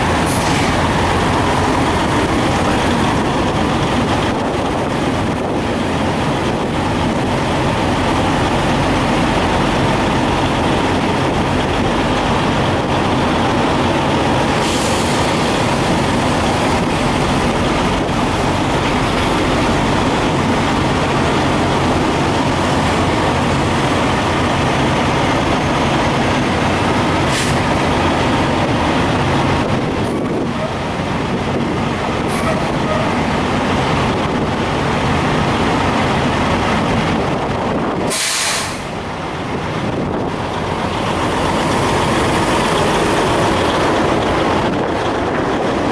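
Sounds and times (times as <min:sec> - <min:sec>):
diesel truck engines idling: 0:00.0 - 0:45.9.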